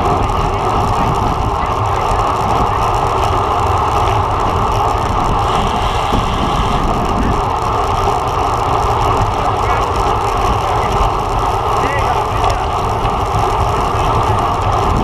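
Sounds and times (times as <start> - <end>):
bicycle tyre and road noise: 0.0 - 15.0
wind rushing over microphone: 0.0 - 15.0.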